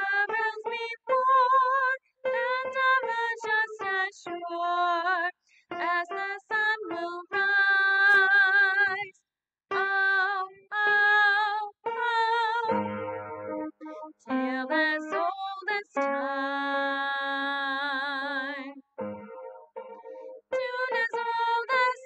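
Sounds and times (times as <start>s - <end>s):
solo soprano singing: 0.0s - 9.1s, 9.7s - 12.9s, 13.9s - 18.8s, 20.5s - 22.0s.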